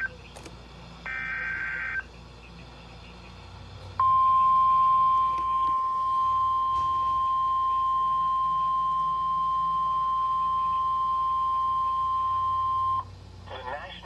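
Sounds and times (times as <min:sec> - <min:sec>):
steady warning alarm tone: 0:00.0 - 0:13.2.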